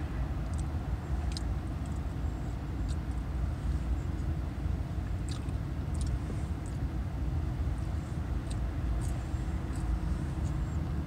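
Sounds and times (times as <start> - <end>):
idling car engine rumble: 0.0 - 11.0.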